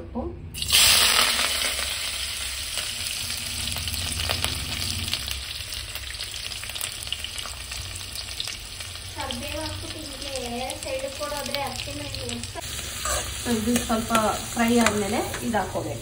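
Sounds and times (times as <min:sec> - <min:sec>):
food sizzling in hot oil: 0:00.6 - 0:16.0.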